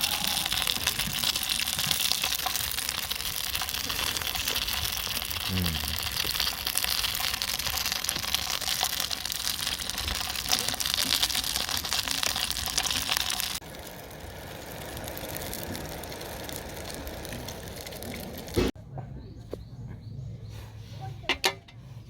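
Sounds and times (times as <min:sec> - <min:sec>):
wood fire crackling with food sizzling: 0:00.0 - 0:18.8.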